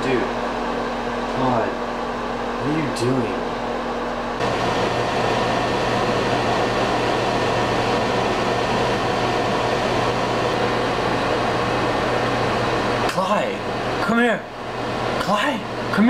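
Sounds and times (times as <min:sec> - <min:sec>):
low electrical hum: 0:00.0 - 0:16.0
microwave fan whirring: 0:00.0 - 0:16.0.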